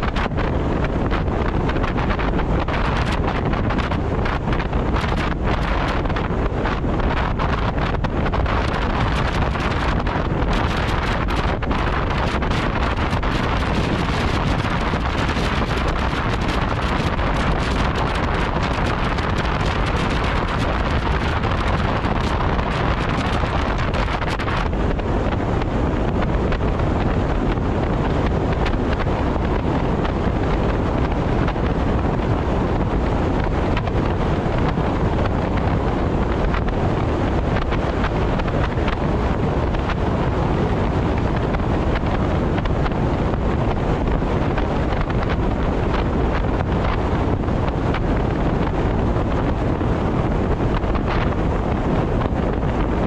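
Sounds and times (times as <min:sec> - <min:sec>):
car wind and tyre noise: 0:00.0 - 0:53.0
wind on microphone: 0:00.0 - 0:53.0.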